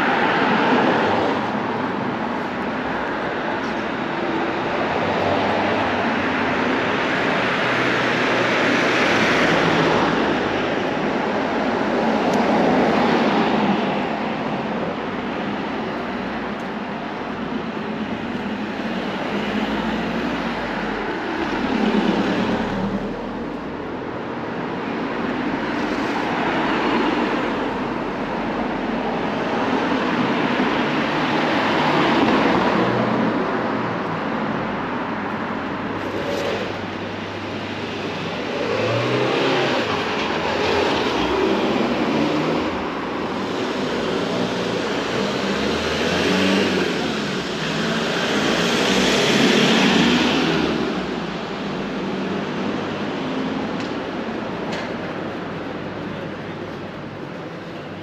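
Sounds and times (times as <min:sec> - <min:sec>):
cars driving past: 0:00.0 - 0:58.0.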